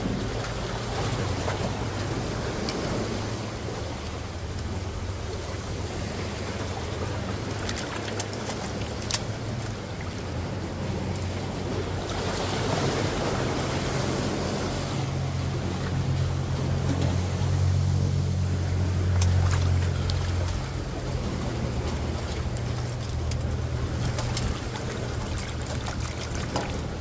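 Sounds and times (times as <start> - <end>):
sea waves washing against rocks: 0.0 - 27.0
steady low rumble: 0.0 - 27.0.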